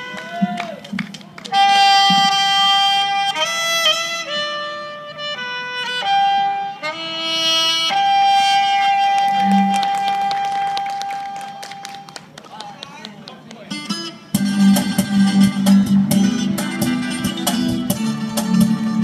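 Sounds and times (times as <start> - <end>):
saxophone slow melody: 1.5 - 12.2, 13.8 - 19.0.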